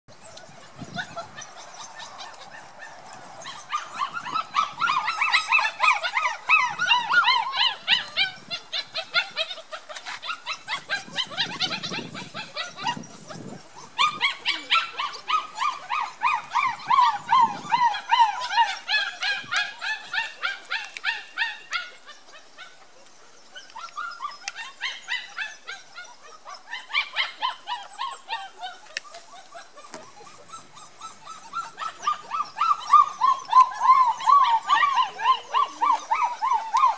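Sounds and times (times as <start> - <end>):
puppies whining and yipping: 0.1 - 36.9.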